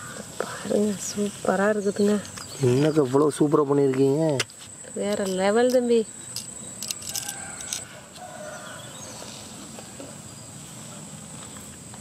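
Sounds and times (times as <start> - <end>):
crickets droning: 0.0 - 12.0.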